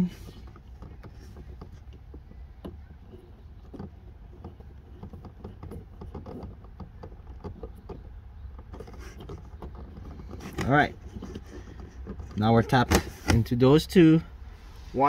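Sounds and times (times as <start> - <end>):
low steady rumble: 0.0 - 15.0
small plastic clicks and rustles: 0.2 - 13.5.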